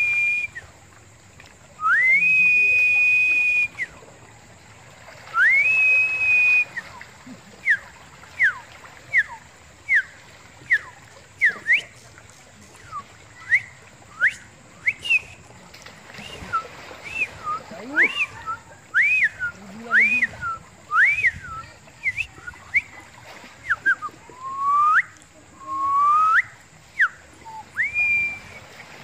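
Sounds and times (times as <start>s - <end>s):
bird whistling: 0.0s - 0.7s, 1.8s - 4.0s, 5.4s - 7.0s, 7.6s - 12.0s, 12.8s - 15.5s, 16.2s - 23.0s, 23.6s - 28.6s
seawater lapping among rocks: 0.0s - 29.0s.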